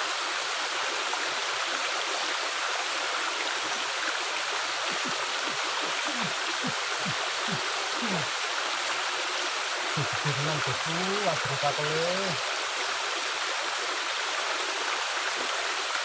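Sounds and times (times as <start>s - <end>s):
water rushing through culvert: 0.0s - 16.0s.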